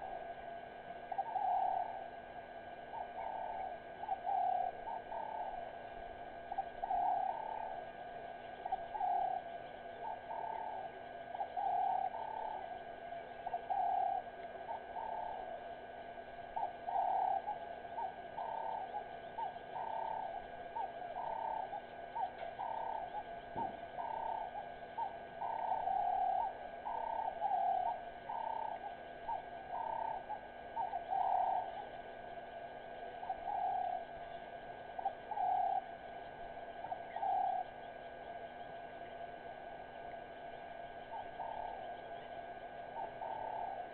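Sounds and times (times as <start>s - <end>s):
birds cooing: 0.0s - 0.4s, 1.0s - 43.9s
faint steady hum: 0.0s - 43.9s.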